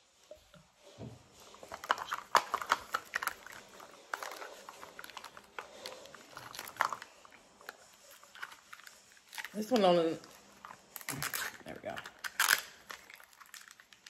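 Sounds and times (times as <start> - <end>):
plastic wrapping crinkling: 0.2 - 14.0.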